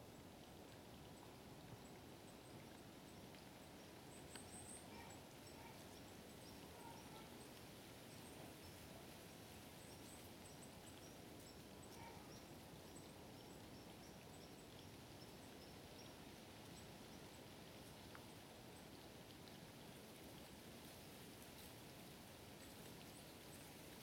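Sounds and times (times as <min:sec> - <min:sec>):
faint outdoor hiss: 0:00.0 - 0:24.0.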